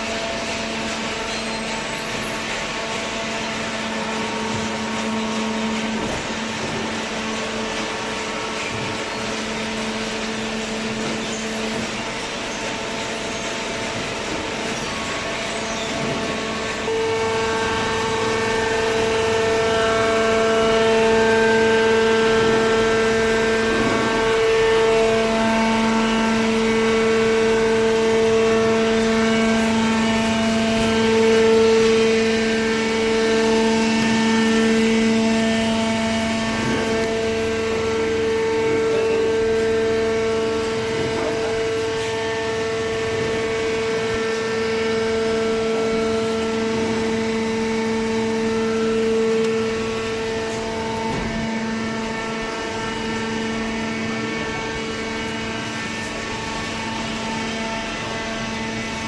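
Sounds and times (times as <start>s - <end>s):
baler motor and pump droning: 0.0s - 59.0s.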